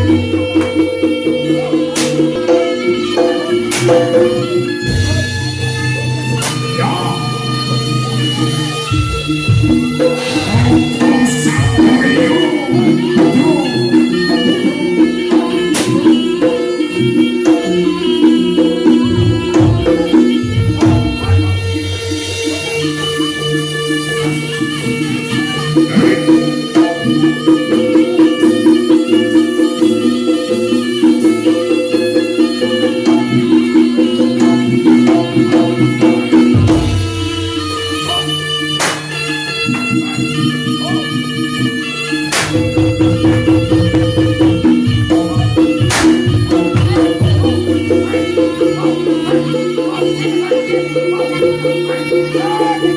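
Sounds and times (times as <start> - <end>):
hand drum strokes: 0.0 - 40.2, 42.3 - 52.9
reedy melody held notes: 0.0 - 52.9.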